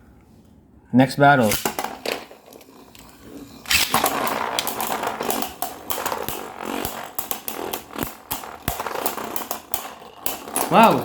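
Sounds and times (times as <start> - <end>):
spinning tops whirring and clashing: 1.4 - 11.0
sharp clicks and knocks: 1.5 - 11.0.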